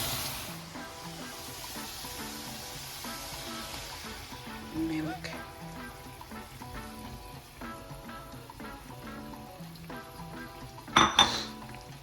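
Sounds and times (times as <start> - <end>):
faint kitchen sounds: 0.0 - 12.0
gentle background music: 0.0 - 12.0.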